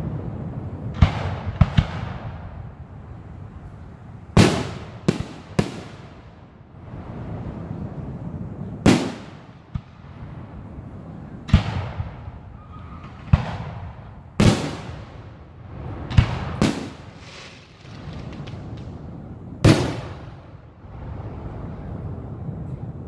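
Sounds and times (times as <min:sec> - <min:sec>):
firework booms: 0:00.0 - 0:02.8, 0:04.3 - 0:07.5, 0:08.6 - 0:21.9.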